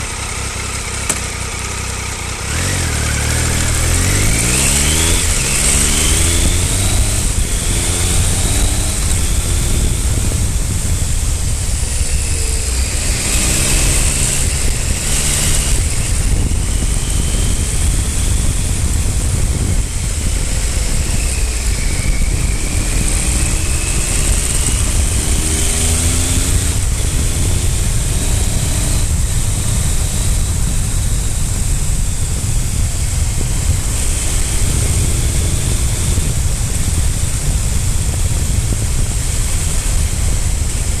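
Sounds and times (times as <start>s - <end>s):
motorcycle engine revving: 0.0s - 41.0s
wind rush on microphone: 2.5s - 41.0s.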